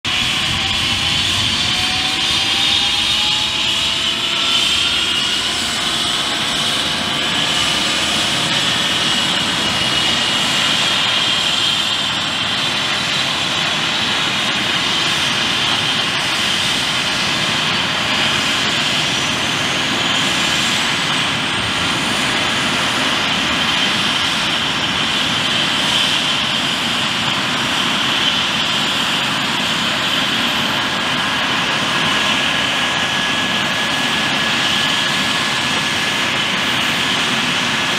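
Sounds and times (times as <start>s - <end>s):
turbine whine: 0.0s - 37.9s
helicopter rotor turning: 0.1s - 37.9s.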